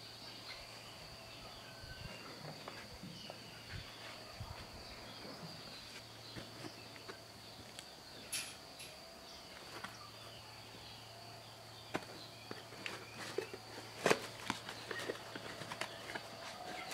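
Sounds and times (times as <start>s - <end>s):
faint bird chirps: 0.0s - 16.9s.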